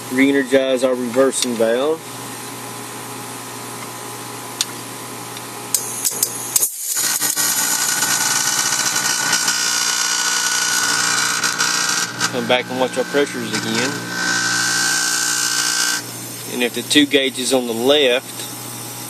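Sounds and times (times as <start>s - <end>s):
heat pump humming: 0.0s - 19.0s.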